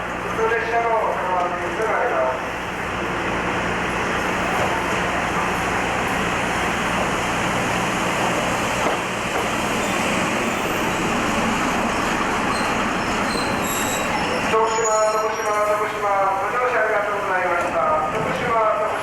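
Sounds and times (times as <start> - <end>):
train running rumble: 0.0 - 19.0.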